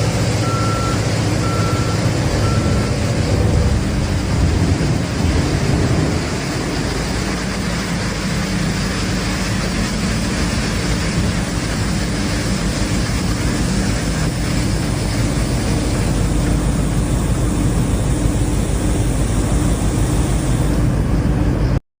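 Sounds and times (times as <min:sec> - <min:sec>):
dump truck diesel engine roaring: 0:00.0 - 0:21.8.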